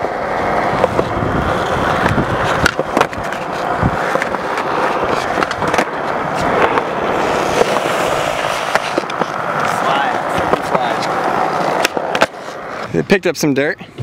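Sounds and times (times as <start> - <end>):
skateboard clacking on ground: 0.0 - 12.9
skateboard rolling on concrete: 0.0 - 14.0.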